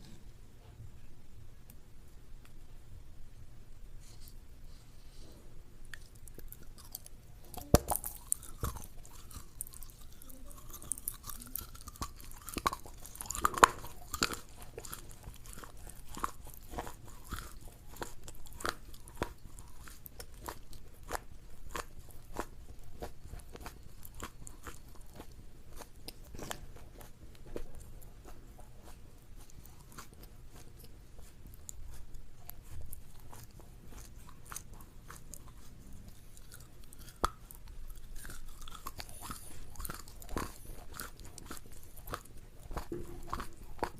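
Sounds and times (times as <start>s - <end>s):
crunchy food bites and chewing: 5.9s - 43.9s.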